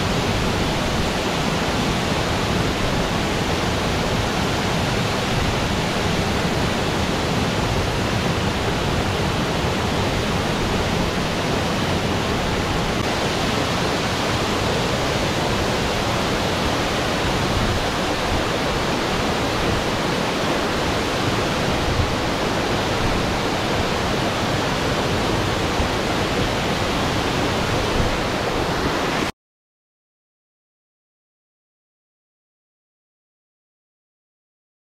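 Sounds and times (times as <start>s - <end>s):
waterfall rushing: 0.0s - 29.3s.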